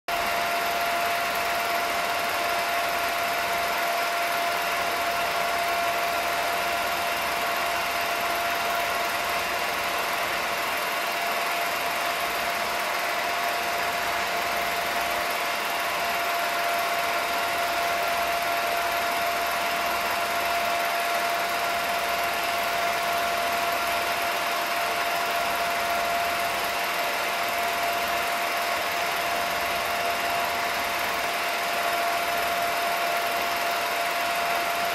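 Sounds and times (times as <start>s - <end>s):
film projector whirring: 0.1s - 34.9s.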